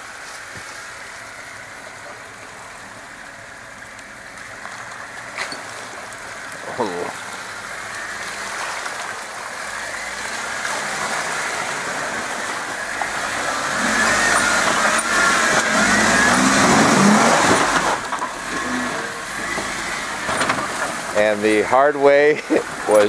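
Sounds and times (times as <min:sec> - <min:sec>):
car engine revving: 0:01.0 - 0:23.0.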